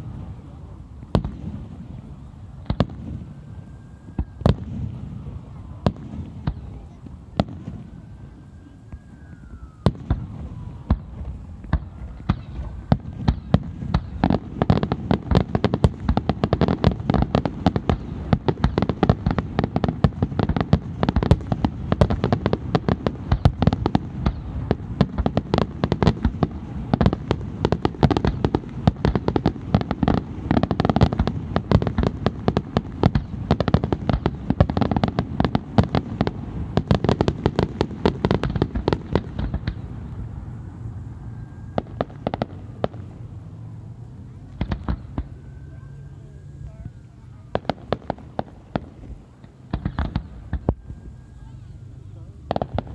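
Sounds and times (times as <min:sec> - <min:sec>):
firework whistle: 0:00.0 - 0:52.9
fireworks bangs and crackling: 0:00.0 - 0:52.9.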